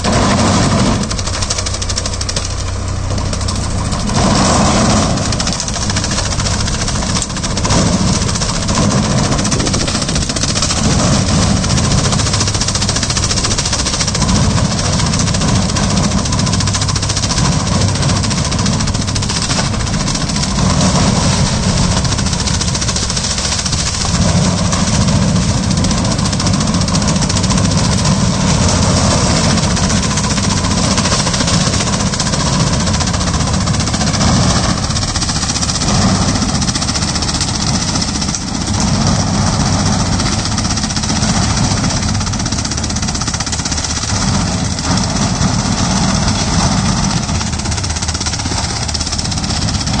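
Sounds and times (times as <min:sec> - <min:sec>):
cutting machine engine running: 0:00.0 - 0:50.0.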